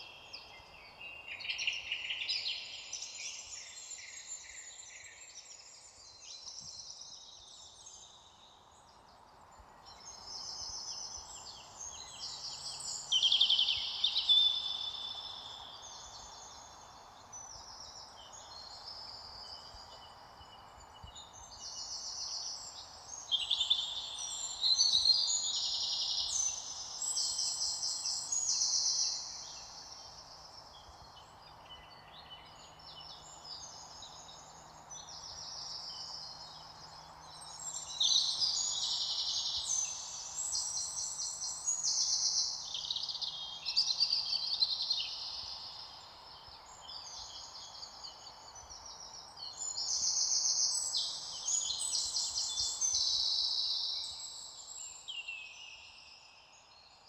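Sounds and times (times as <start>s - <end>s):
faint steady hiss: 0.0s - 57.0s
songbirds singing and chirping: 0.0s - 57.0s.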